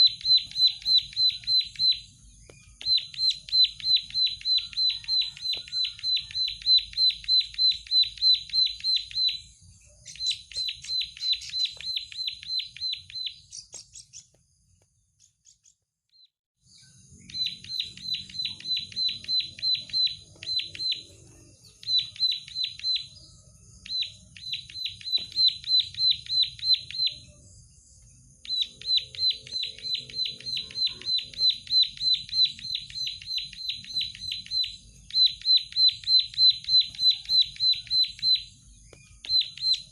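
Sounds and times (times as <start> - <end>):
bird singing rapid high notes: 0.0 - 14.3, 16.9 - 27.4, 28.4 - 39.9.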